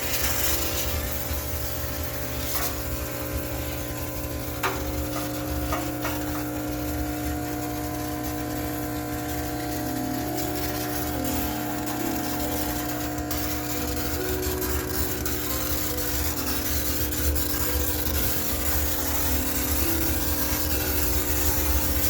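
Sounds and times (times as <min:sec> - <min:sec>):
steam cleaner hissing: 0:00.0 - 0:22.0.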